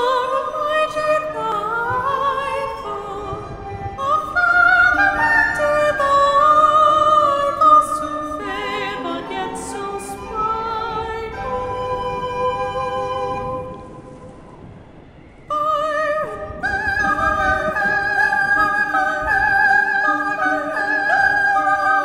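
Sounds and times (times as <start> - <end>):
woman singing soprano: 0.0 - 14.2, 15.5 - 22.0
recorders: 0.0 - 22.0.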